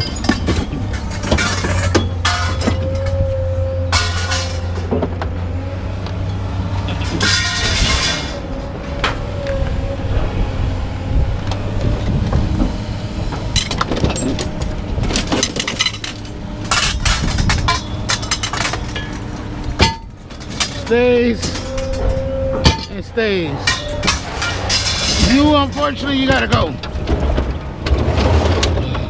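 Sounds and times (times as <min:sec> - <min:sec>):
scrap metal scraping rush: 0:00.0 - 0:05.8, 0:07.0 - 0:09.0, 0:11.8 - 0:29.0
metal clanks and knocks: 0:00.0 - 0:09.2, 0:11.4 - 0:29.0
engine hum: 0:00.0 - 0:29.0.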